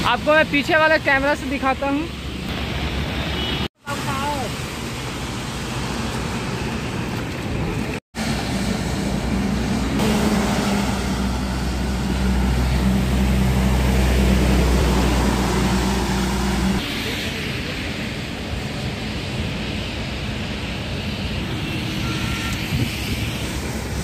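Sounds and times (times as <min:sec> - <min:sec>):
tyres hissing on wet road: 0:00.0 - 0:24.0
diesel engine drone: 0:02.1 - 0:24.0.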